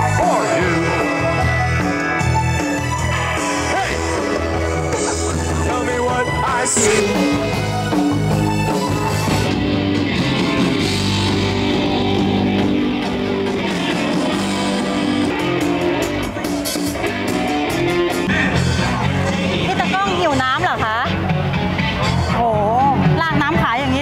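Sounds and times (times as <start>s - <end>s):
electric guitar: 0.0s - 24.0s
live rock band playing: 0.0s - 24.0s.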